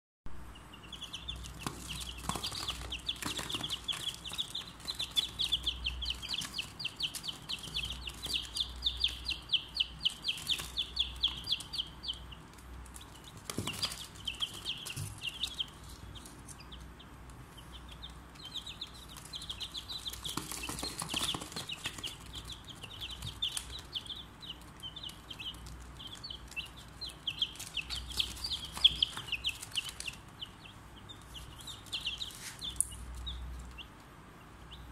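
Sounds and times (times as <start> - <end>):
chicks peeping: 0.3 - 34.9.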